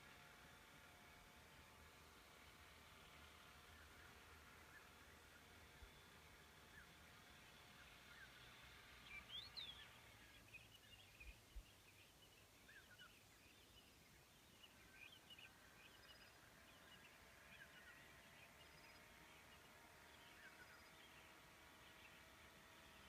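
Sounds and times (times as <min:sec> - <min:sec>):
birds chirping: 0:01.9 - 0:23.0.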